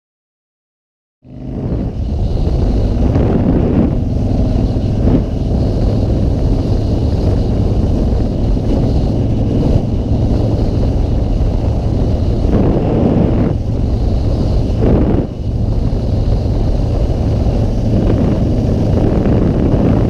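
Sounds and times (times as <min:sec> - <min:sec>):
motorcycle engine running: 0:01.2 - 0:20.0
wind rumbling over microphone: 0:01.2 - 0:20.0.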